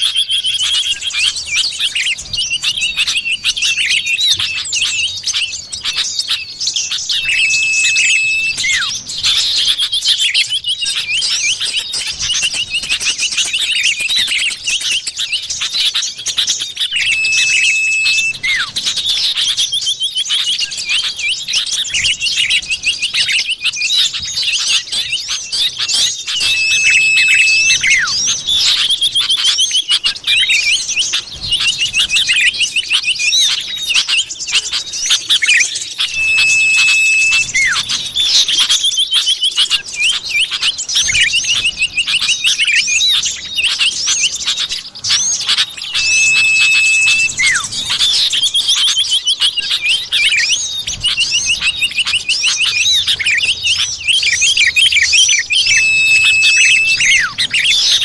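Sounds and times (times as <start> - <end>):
bird long steady whistle: 0.0 - 58.0
bird rapid chattering and chirps: 0.0 - 58.0.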